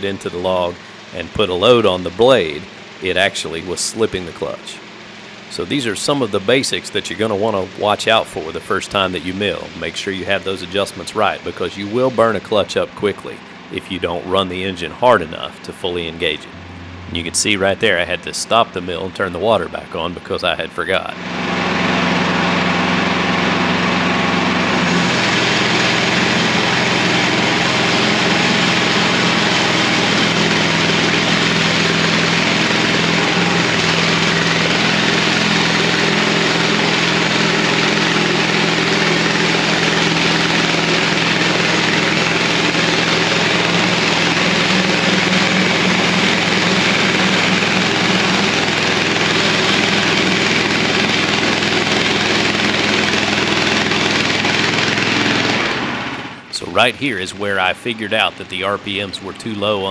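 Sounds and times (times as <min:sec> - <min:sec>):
band saw cutting log: 0:00.0 - 0:59.9
sawmill engine running: 0:00.0 - 0:59.9.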